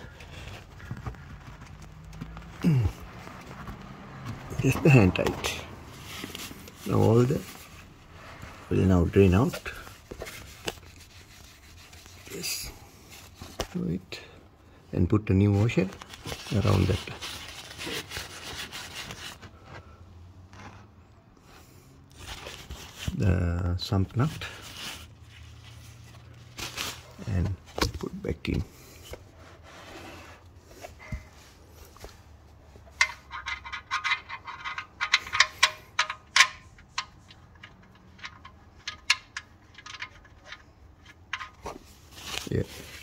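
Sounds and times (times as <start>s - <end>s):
rubbing and scraping handling: 0.0s - 14.4s, 15.0s - 43.0s.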